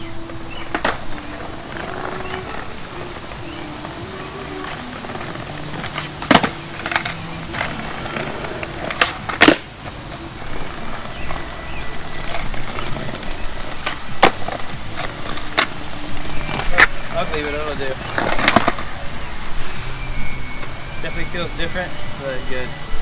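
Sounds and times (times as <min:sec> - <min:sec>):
skateboard clacking on ground: 0:00.0 - 0:19.1
skateboard wheels rolling on pavement: 0:00.0 - 0:23.0.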